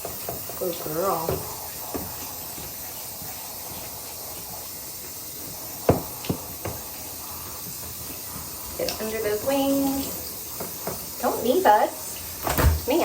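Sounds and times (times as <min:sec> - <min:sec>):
shower water spraying: 0:00.0 - 0:13.0.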